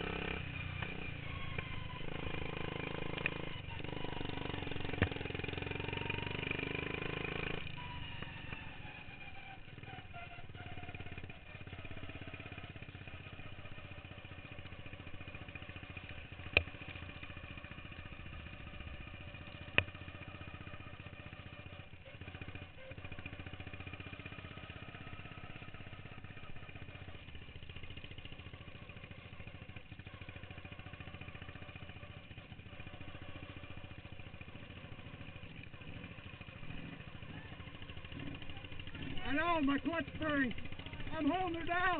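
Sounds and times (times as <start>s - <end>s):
lawn mower engine revving down: 0.0s - 41.9s.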